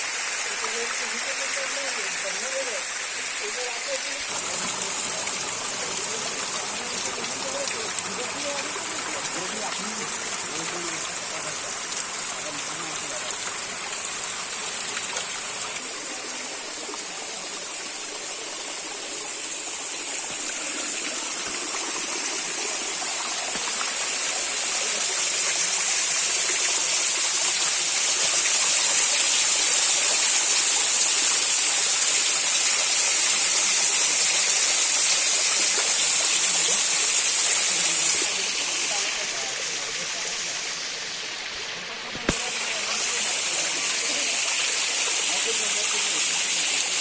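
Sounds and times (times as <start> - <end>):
running water rushing: 0.0 - 47.0.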